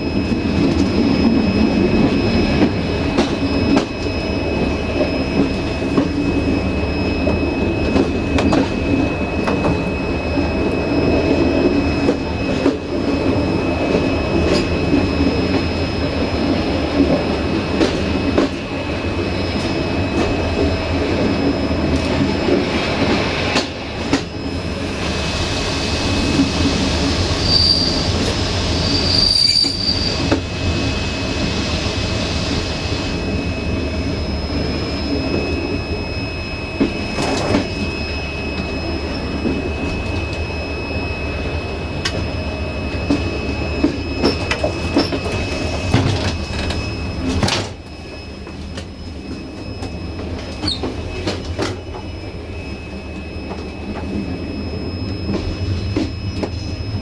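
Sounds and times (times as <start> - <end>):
train rumble: 0.0 - 57.0
train wheels squealing: 0.0 - 57.0.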